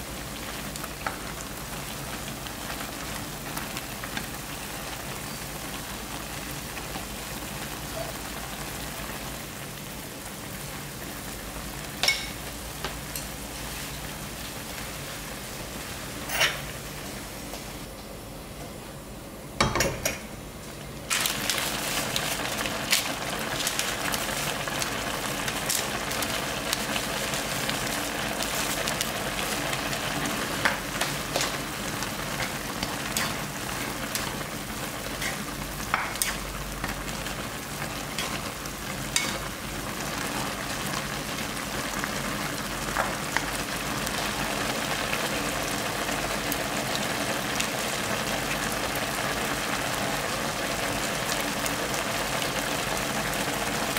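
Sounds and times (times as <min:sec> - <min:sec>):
noodles sizzling in frying pan: 0:00.0 - 0:17.9, 0:21.1 - 0:53.9.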